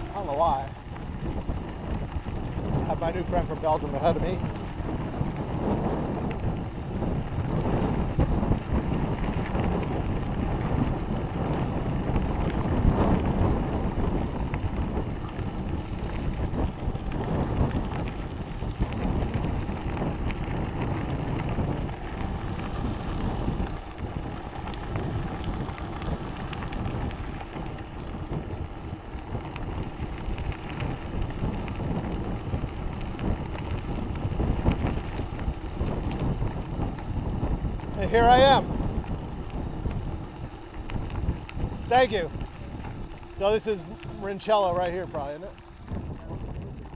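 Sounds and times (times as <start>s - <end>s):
bike tyres rolling on gravel: 0.0s - 46.9s
wind buffeting microphone: 0.0s - 46.9s.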